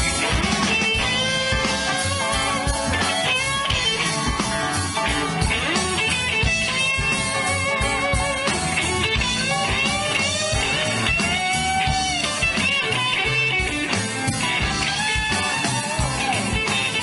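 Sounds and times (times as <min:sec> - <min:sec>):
drum and bass beat: 0:00.0 - 0:17.0
electric guitar bent sliding notes: 0:00.0 - 0:17.0.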